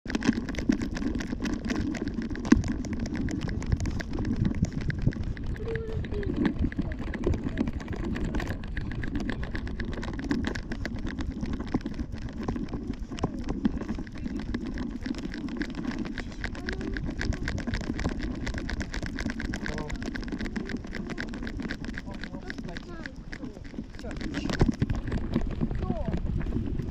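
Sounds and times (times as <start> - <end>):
camera rubbing and rustling: 0.0 - 26.9.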